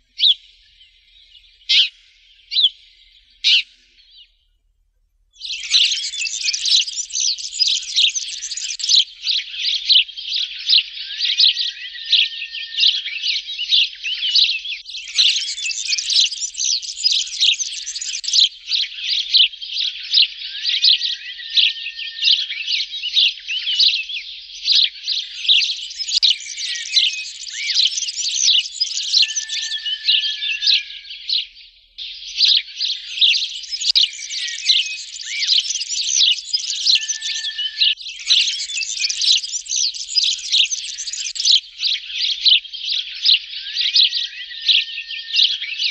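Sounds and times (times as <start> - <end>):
sparrows chirping: 0.0 - 4.6, 5.4 - 45.9.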